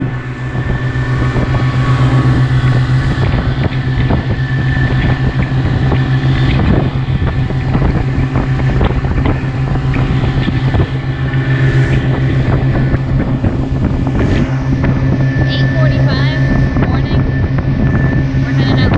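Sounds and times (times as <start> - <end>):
motorboat engine droning: 0.0 - 18.9.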